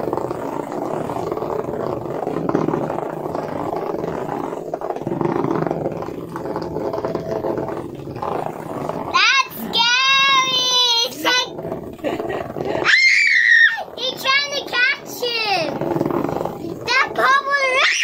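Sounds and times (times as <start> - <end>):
toy bug buzzing on plastic: 0.0 - 18.0.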